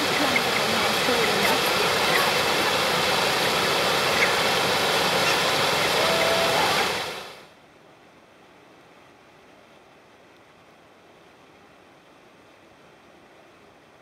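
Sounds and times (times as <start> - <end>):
stream rushing over weir: 0.0 - 14.0.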